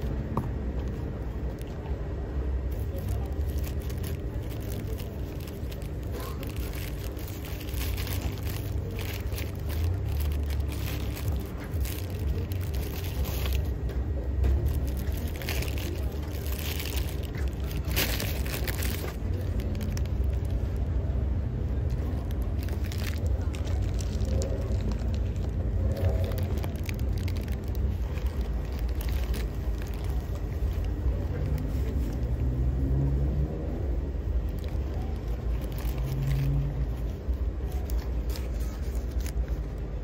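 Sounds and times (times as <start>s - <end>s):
steady low rumble: 0.0s - 40.0s
paper wrapper crinkling: 0.8s - 2.0s, 2.6s - 40.0s.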